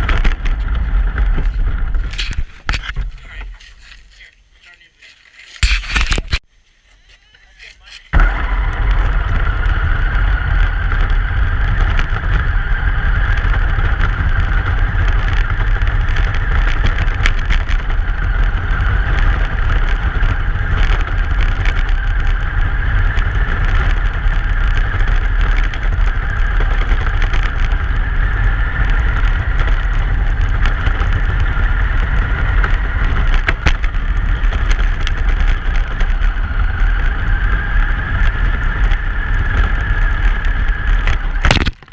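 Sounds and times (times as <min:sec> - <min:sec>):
road and wind rumble: 0:00.0 - 0:06.5, 0:07.3 - 0:41.9
high whine: 0:00.0 - 0:41.9.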